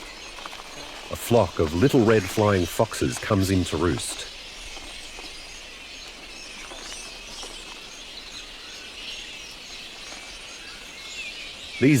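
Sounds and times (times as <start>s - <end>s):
bats chirping and squeaking: 0.0s - 12.0s.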